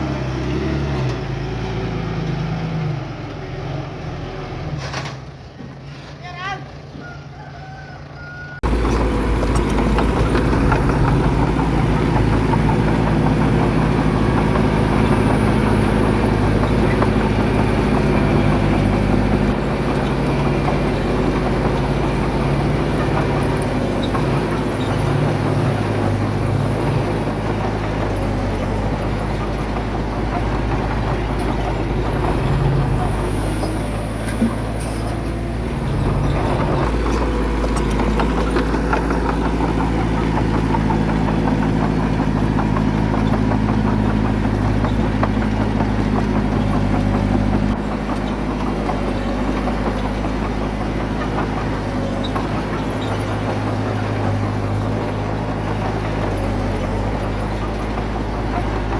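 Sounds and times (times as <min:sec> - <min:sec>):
heavy diesel engine running: 0:08.6 - 0:58.9.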